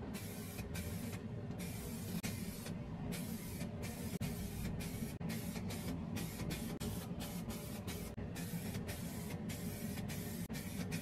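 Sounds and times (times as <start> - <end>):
spray can hissing: 0.2 - 11.0.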